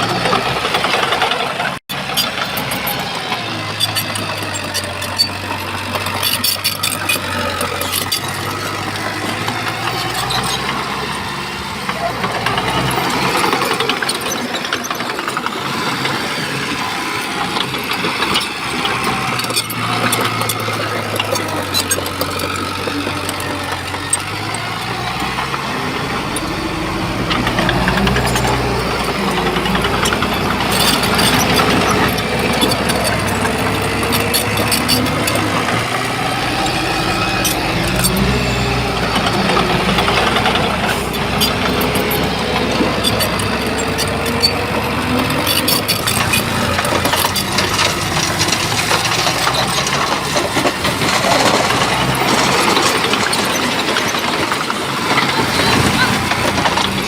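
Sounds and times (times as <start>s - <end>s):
bulldozer diesel engine running: 0.0s - 57.0s
sharp clicks and clatter: 0.0s - 57.0s.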